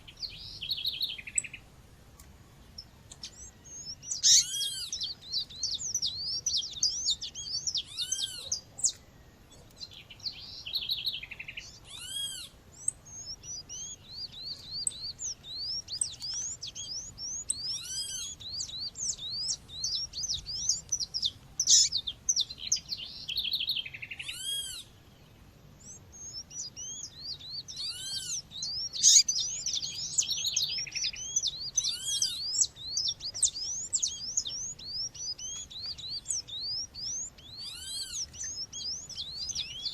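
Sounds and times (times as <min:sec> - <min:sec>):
other birds calling: 0:00.0 - 0:39.9.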